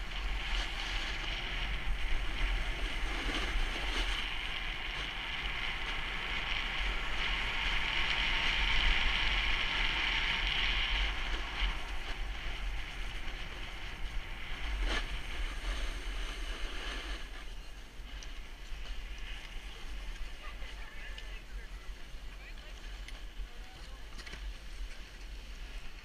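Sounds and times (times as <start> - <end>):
skis scraping on snow: 0.0 - 26.0
wind rumbling on microphone: 0.0 - 26.0.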